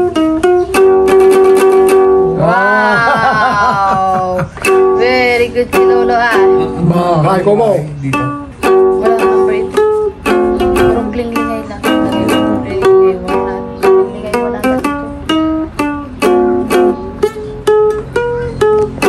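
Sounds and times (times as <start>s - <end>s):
ukulele strumming: 0.0s - 19.0s.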